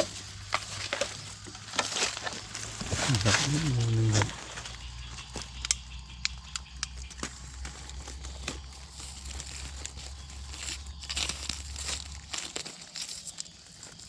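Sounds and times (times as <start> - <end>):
twigs snapping: 0.0 - 13.5
dry leaves and twigs crackling: 0.0 - 14.0.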